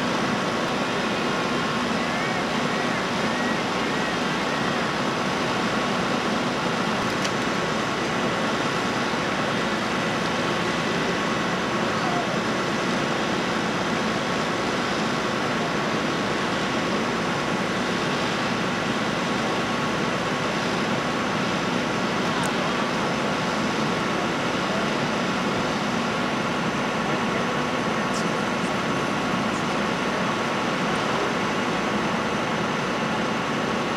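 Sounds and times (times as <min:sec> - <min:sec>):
constant whine: 0:00.0 - 0:33.9
engines droning: 0:00.0 - 0:33.9.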